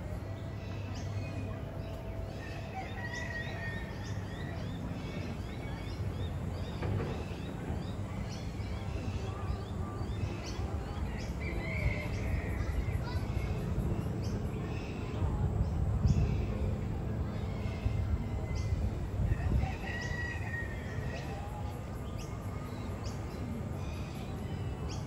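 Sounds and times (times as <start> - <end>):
low background rumble: 0.0 - 25.0
wild birds chirping: 0.0 - 25.0.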